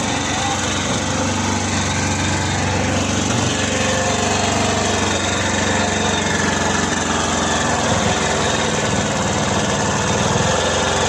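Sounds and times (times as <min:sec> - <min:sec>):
diesel generator running: 0:00.0 - 0:11.0.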